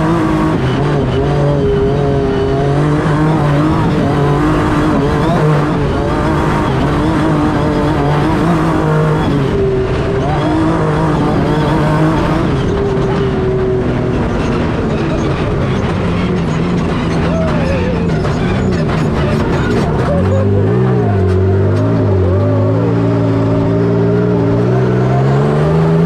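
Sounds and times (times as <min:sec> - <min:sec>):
truck engine running hard: 0:00.0 - 0:26.0
tyre and chassis noise: 0:00.0 - 0:26.0.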